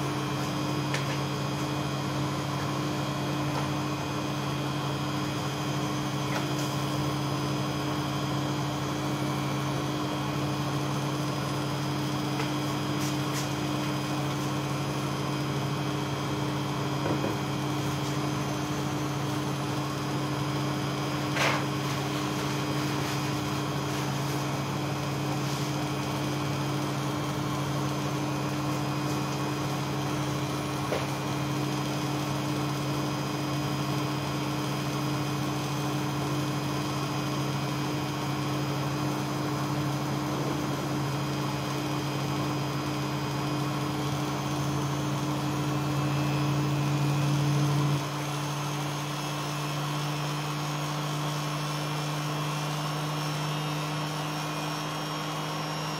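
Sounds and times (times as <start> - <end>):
washing machine spinning: 0.0 - 55.9.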